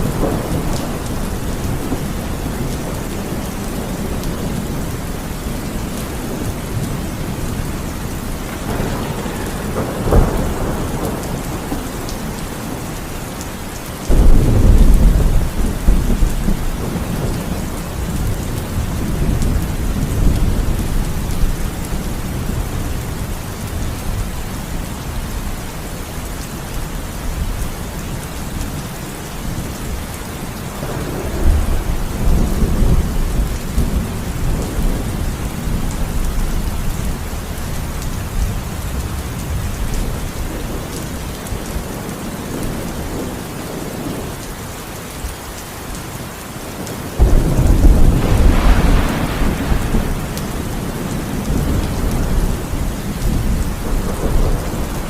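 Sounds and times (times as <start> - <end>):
thunder rumbling: 0.0 - 26.4, 27.2 - 44.5, 46.8 - 55.0
heavy rain falling: 0.0 - 55.0.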